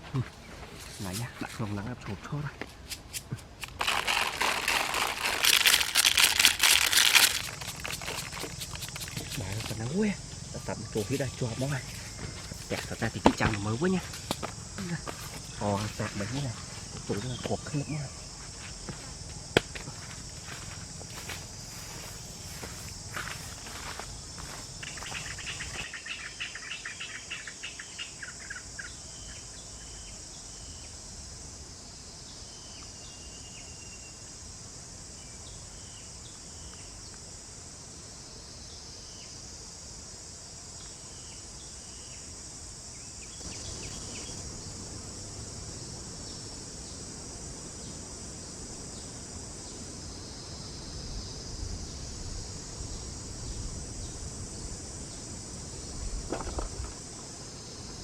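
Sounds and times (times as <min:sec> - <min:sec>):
high-pitched insect chorus: 0:00.0 - 0:58.0
insect chirps: 0:00.0 - 0:58.0.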